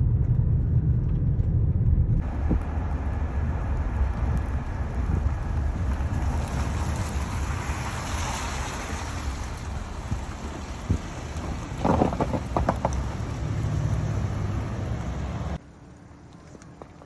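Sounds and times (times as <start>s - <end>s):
wind rumbling on microphone: 0.0s - 15.6s.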